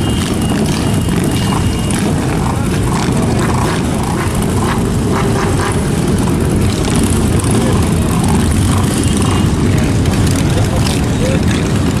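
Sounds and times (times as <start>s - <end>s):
faint voices: 0.0s - 12.0s
motorcycle engines rumbling: 0.0s - 12.0s.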